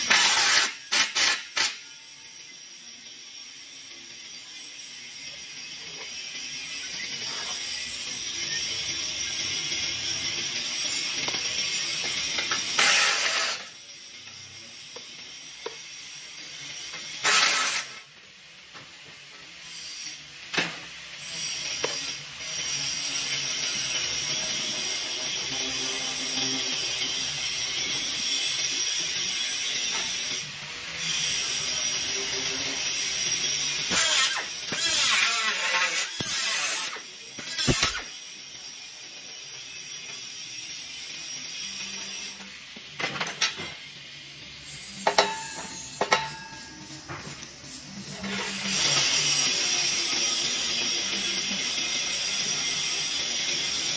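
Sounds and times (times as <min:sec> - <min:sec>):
grinder cutting steel pipe: 0:00.0 - 0:53.9
harsh mechanical noise bursts: 0:00.0 - 0:53.9.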